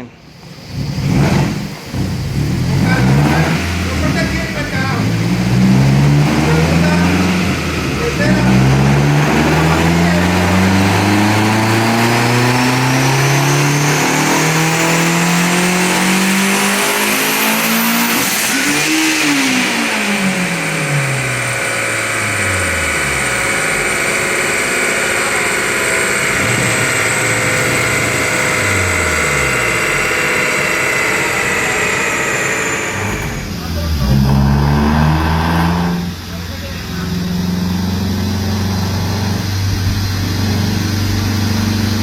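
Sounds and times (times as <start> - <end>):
car engine revving: 0.0 - 42.0
turbo whine: 0.0 - 42.0.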